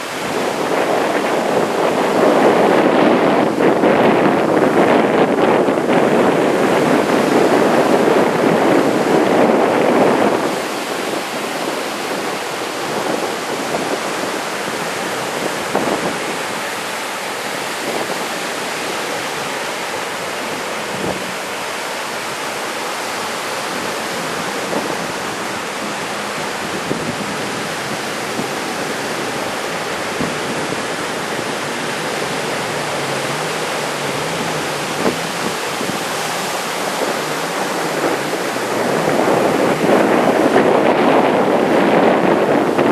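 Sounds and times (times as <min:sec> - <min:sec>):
surf breaking and washing ashore: 0:00.0 - 0:42.9
wind buffeting microphone: 0:00.0 - 0:42.9.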